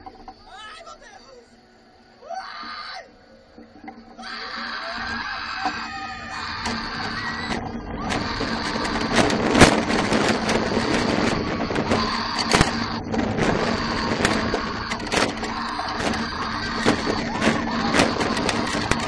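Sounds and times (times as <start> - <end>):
roller coaster knocks and rattles: 0.0 - 1.0, 2.8 - 19.0
riders screaming: 0.4 - 3.3, 4.0 - 19.0
wind and track noise rushing: 3.6 - 19.0.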